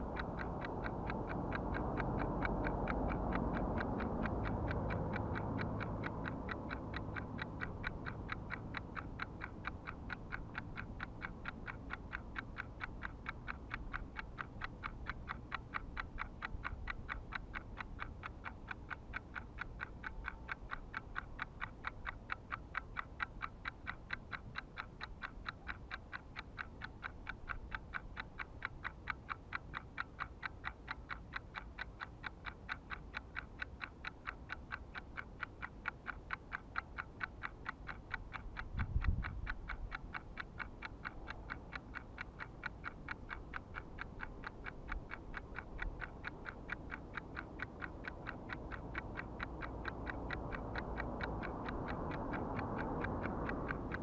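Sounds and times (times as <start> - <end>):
regular ticking: 0.0 - 54.0.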